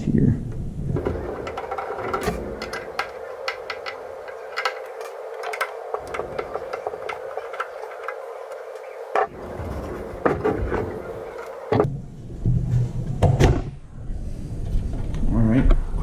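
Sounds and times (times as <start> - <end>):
steady hum: 0.1 - 16.0.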